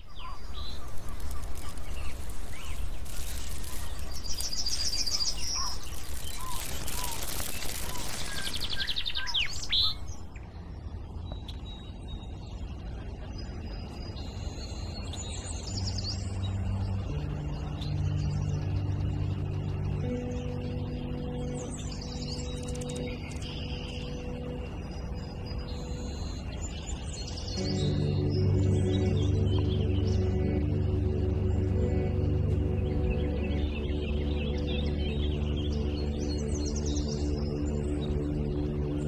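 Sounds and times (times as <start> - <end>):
low steady hum: 0.0 - 39.0
songbirds singing: 0.0 - 39.0
steady rushing noise: 0.0 - 39.0.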